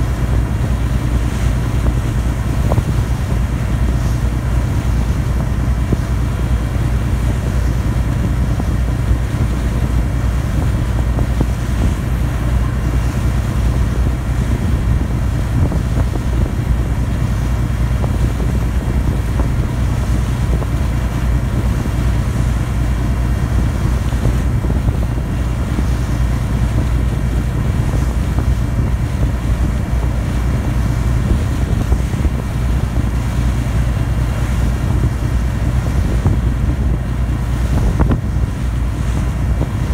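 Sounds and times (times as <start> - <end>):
ferry engine drone: 0.0 - 39.9
water noise: 0.0 - 39.9
wind noise: 0.0 - 39.9.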